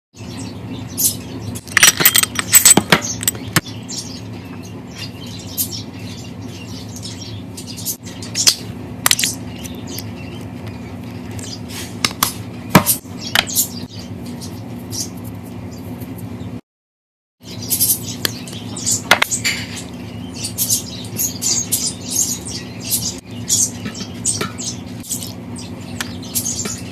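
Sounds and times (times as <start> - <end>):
steady low hum: 0.2 - 16.6, 17.4 - 26.9.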